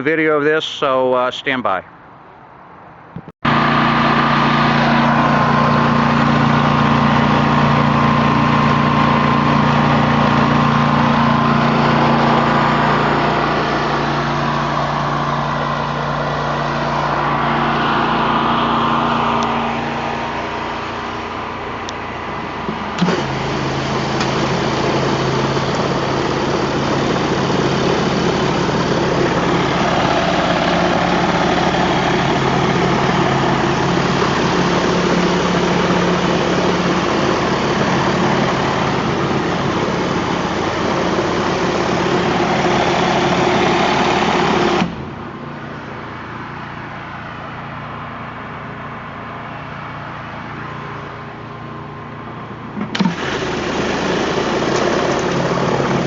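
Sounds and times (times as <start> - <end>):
pressure washer engine: 3.4 - 56.0.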